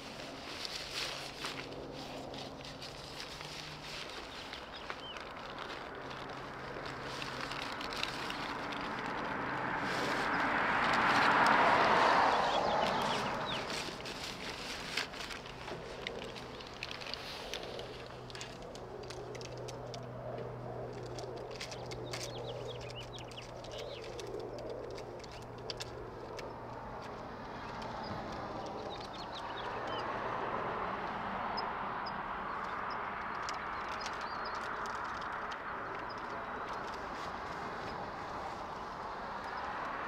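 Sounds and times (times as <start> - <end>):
distant engine rumble: 0.0 - 40.0.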